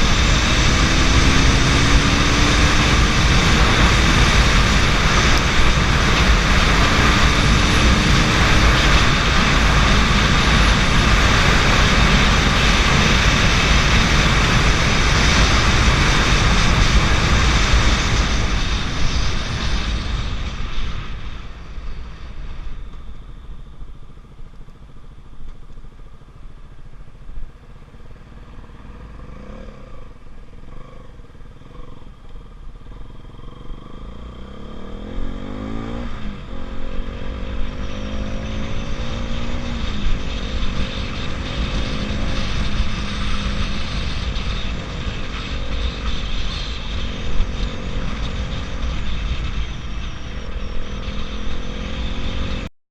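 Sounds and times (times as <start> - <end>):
motorcycle engine accelerating: 0.0 - 52.7
wind rumble: 0.0 - 52.7.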